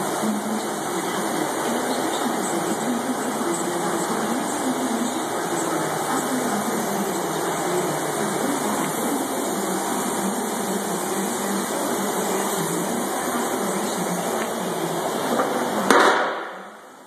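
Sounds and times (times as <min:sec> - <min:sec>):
machine droning: 0:00.0 - 0:17.0.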